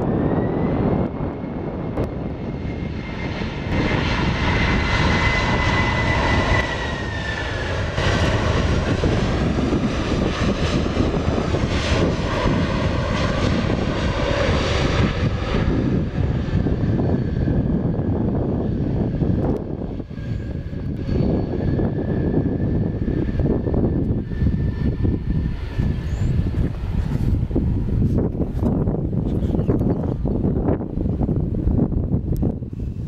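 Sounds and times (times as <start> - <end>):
jet engines whining and rumbling: 0.0 - 33.0.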